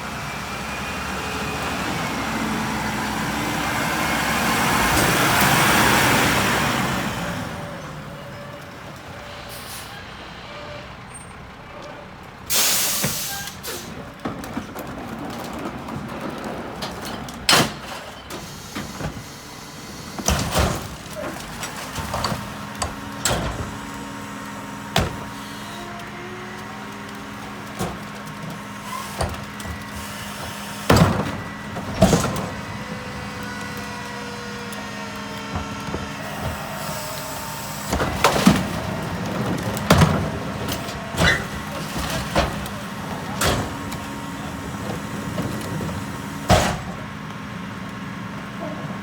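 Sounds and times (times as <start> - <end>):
garbage truck humming: 0.0 - 49.0.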